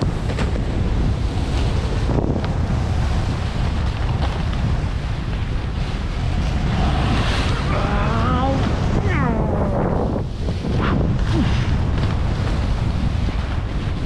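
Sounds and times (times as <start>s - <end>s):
wind buffeting microphone: 0.0s - 14.0s
skis scraping through snow: 0.1s - 9.1s, 10.4s - 14.0s.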